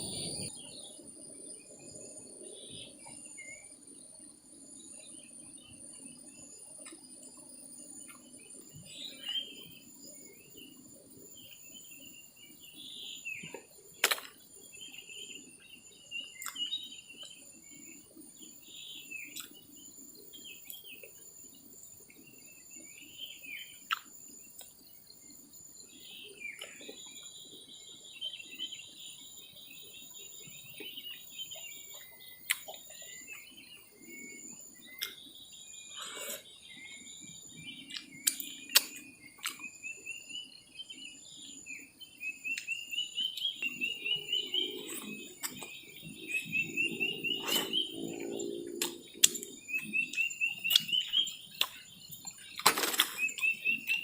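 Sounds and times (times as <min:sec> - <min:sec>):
birds chirping and trilling: 0:00.0 - 0:54.0
insects buzzing high-pitched: 0:00.0 - 0:54.0.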